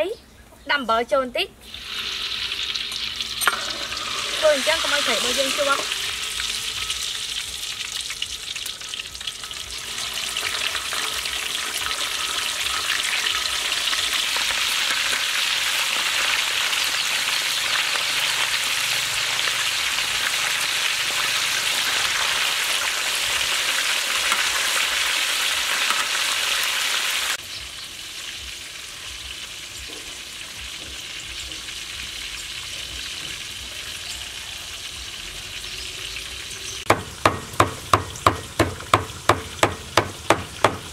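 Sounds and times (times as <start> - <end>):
fish sizzling in hot oil: 1.6 - 40.9.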